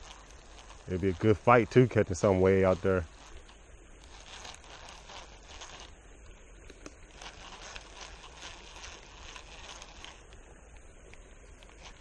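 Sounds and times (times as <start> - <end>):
fishing reel ticking: 0.0 - 6.0, 6.8 - 12.0.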